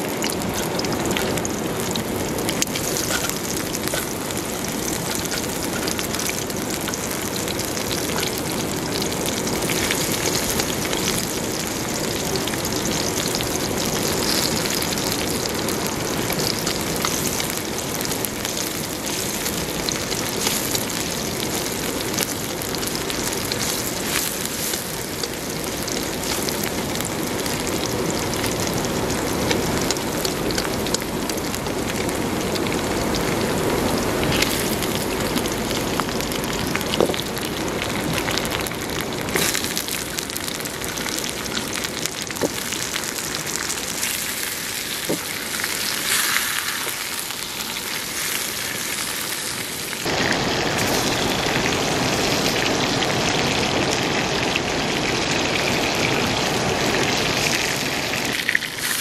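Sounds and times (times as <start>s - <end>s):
garlic sizzling in hot oil: 0.0s - 59.0s.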